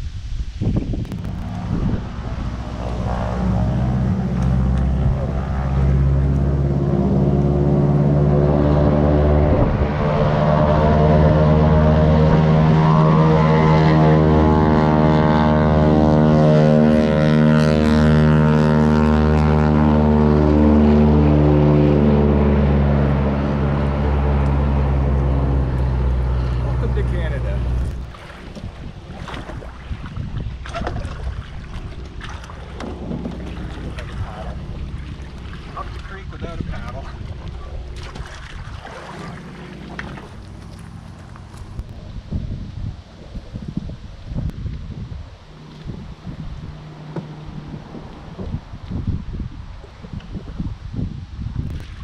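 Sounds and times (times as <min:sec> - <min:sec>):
engine running steadily: 0:00.9 - 0:52.0.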